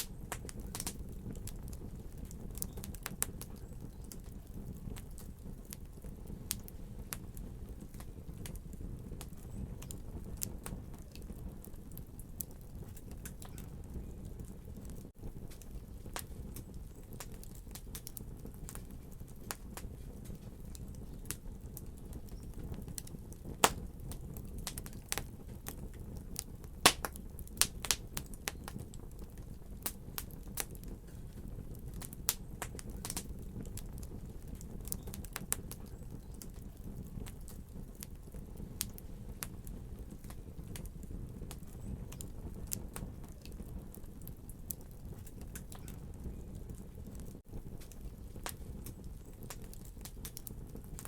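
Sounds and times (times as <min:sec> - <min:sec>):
fire flames rumbling: 0:00.0 - 0:51.0
wood fire crackling and popping: 0:00.0 - 0:51.0.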